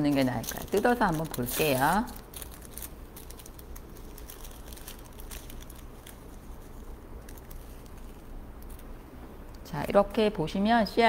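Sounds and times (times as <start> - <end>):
paper packet rustling and tearing: 0.0 - 8.9
steady low hum: 0.0 - 11.0.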